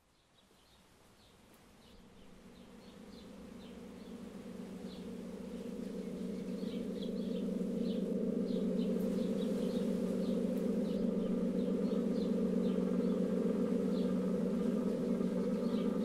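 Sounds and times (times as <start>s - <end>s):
low buzzing drone: 1.8s - 16.0s.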